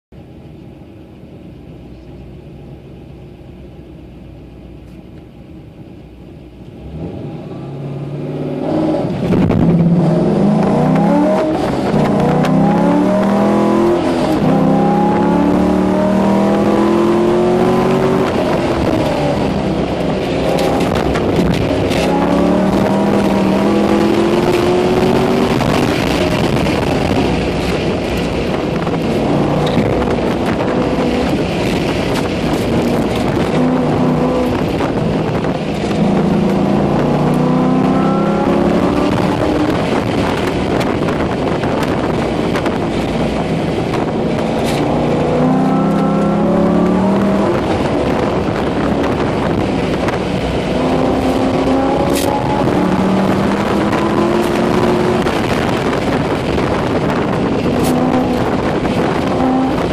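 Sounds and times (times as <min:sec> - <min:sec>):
wind and road noise: 0:00.1 - 0:59.9
car engine revving: 0:06.6 - 0:59.9.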